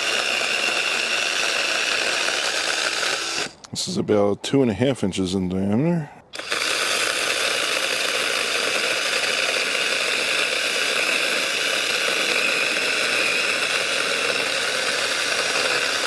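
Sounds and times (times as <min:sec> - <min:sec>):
electric chainsaw cutting log: 0:00.0 - 0:03.7, 0:06.3 - 0:16.0.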